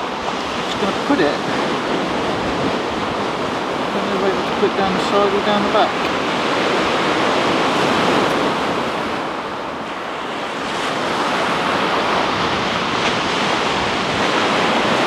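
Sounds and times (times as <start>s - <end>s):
surf washing on shingle: 0.0s - 15.0s.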